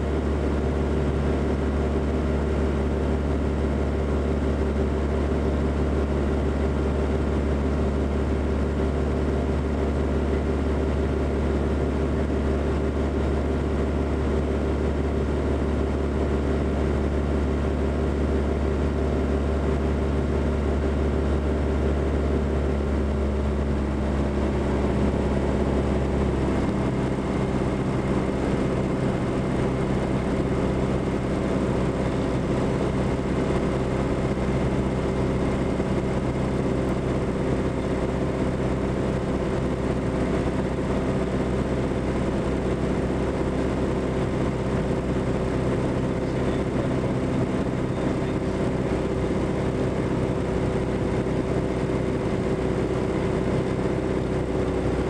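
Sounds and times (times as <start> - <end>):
aircraft engine drone in cockpit: 0.0 - 55.0.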